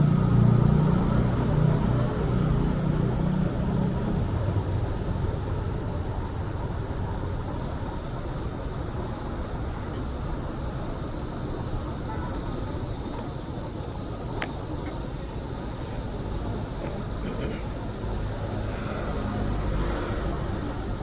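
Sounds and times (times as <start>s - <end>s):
traffic hiss: 0.0s - 21.0s
vehicle engine rumble: 0.0s - 21.0s.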